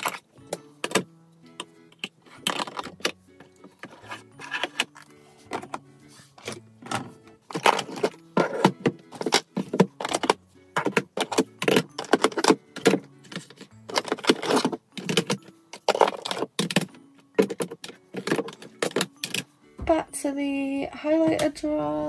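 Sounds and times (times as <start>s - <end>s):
plastic compacts clacking: 0.0s - 5.8s, 6.4s - 19.5s
background music: 0.0s - 22.0s.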